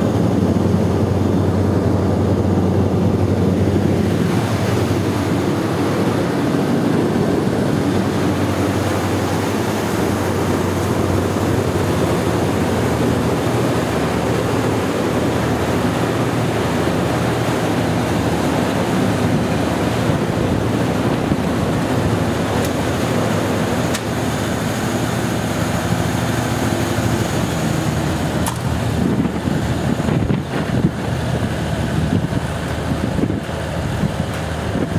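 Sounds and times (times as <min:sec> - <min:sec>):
diesel generator droning: 0:00.0 - 0:34.9.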